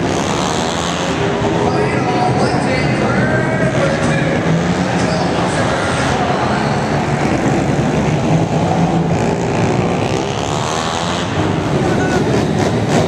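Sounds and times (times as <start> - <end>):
pit bike engines buzzing: 0.0 - 13.0.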